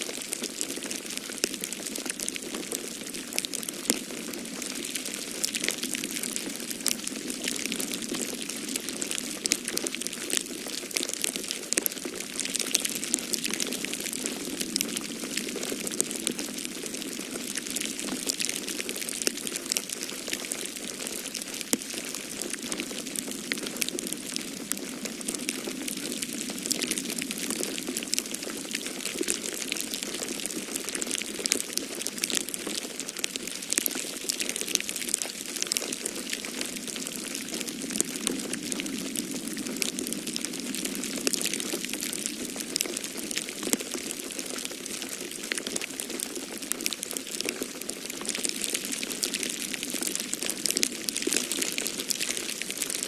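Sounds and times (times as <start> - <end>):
wood fire crackling: 0.2 - 53.0.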